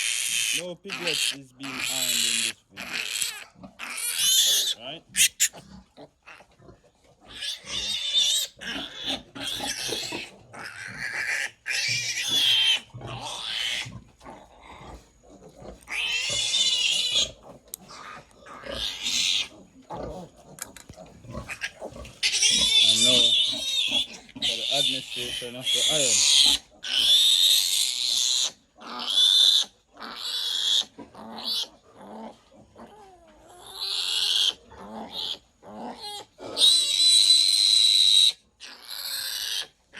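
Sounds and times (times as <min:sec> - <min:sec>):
piglet squealing: 0:00.0 - 0:05.7, 0:07.3 - 0:13.9, 0:15.9 - 0:19.6, 0:21.4 - 0:31.7, 0:32.8 - 0:39.7
piglet grunting: 0:00.0 - 0:37.3.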